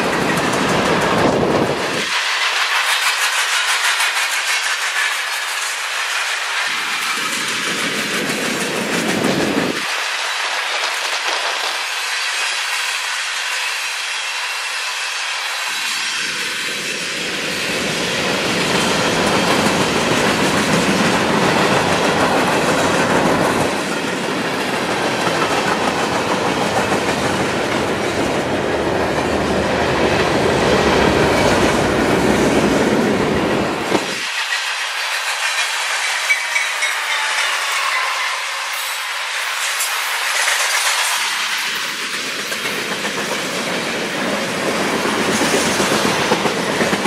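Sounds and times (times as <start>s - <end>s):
freight train wheels on rails: 0.0s - 47.0s.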